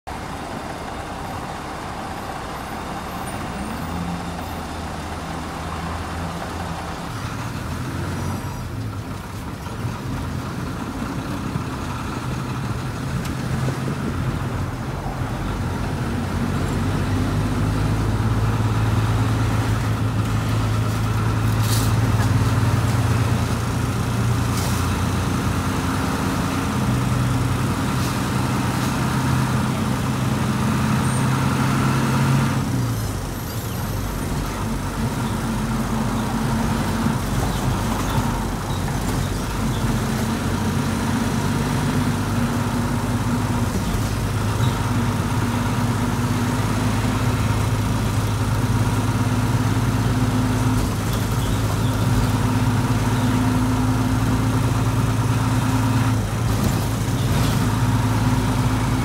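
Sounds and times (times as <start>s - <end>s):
bus engine: 0.0s - 59.0s
road and traffic noise: 0.0s - 59.0s.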